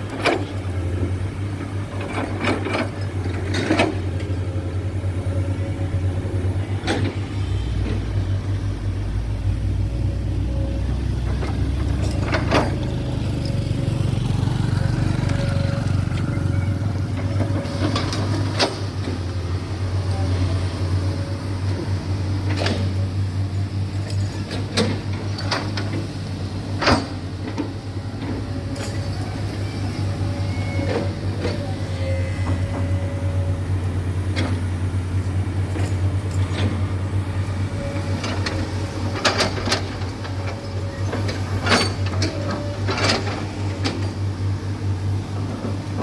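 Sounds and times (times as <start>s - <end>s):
heavy diesel machinery droning: 0.0s - 46.0s.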